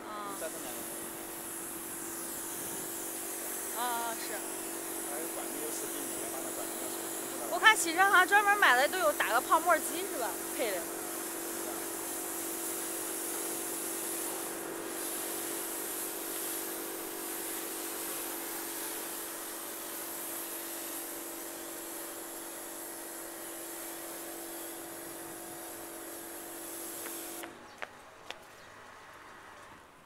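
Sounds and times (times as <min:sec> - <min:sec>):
car wash machine hum: 0:00.0 - 0:27.5
hiss of water spray: 0:00.1 - 0:27.5.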